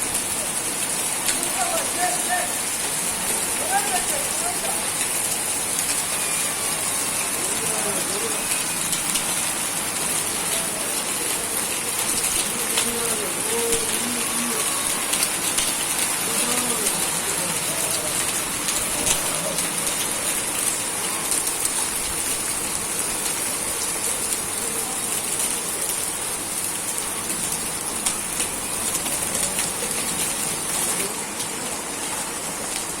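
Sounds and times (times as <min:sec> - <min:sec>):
rain on a hard surface: 0:00.0 - 0:33.0.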